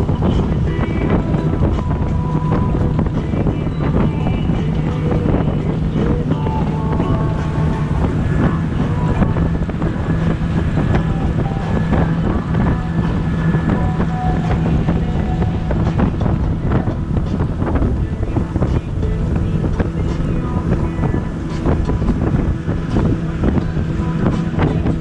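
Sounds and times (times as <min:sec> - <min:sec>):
motorboat engine humming: 0:00.0 - 0:25.0
wind buffeting microphone: 0:00.0 - 0:25.0.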